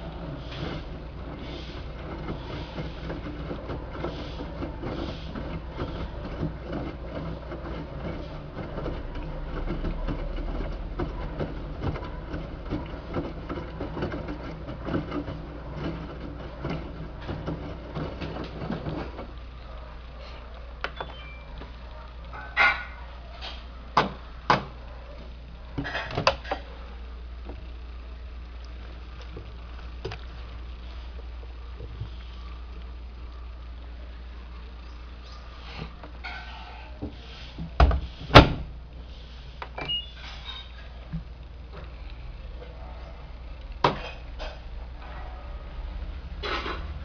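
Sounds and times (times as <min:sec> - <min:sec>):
washing machine hum: 0:00.0 - 0:47.0
washing machine tumbling towels: 0:00.0 - 0:47.0.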